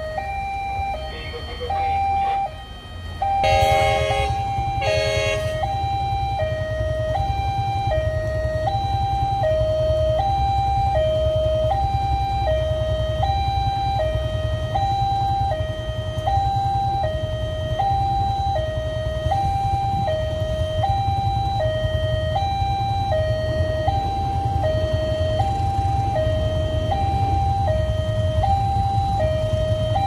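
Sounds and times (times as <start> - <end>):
level crossing two-tone alarm: 0.0 - 30.0.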